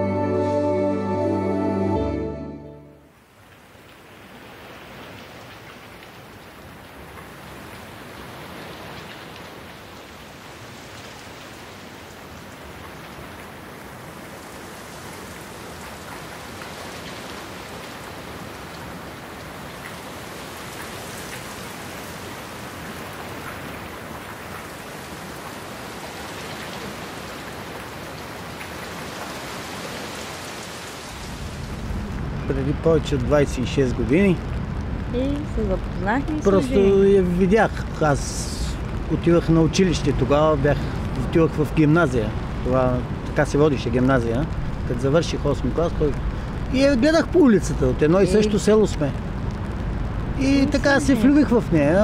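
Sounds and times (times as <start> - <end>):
steady rain falling: 3.0 - 52.0.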